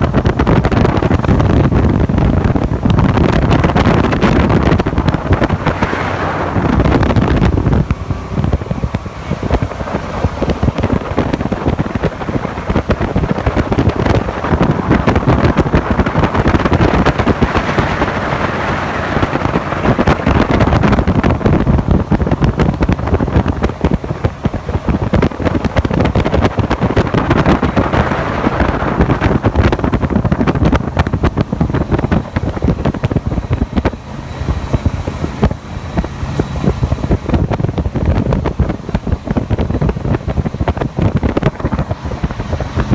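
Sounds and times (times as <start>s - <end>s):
boat engine running: 0.0s - 42.9s
wind buffeting microphone: 0.0s - 42.9s.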